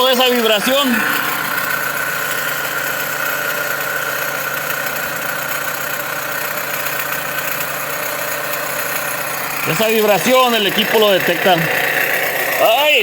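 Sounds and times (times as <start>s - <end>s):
high-pitched belt whine: 0.0s - 5.2s, 6.7s - 13.0s
car engine idling: 0.0s - 13.0s.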